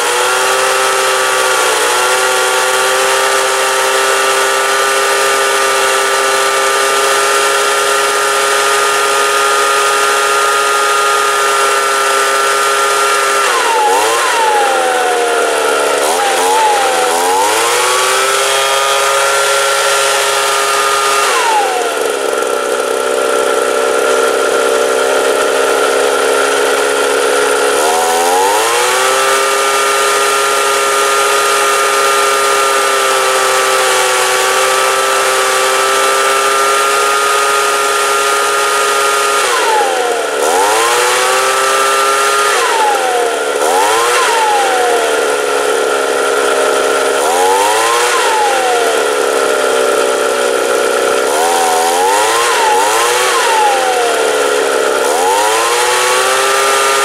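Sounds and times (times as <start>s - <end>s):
leaf blower engine revving: 0.0s - 57.0s.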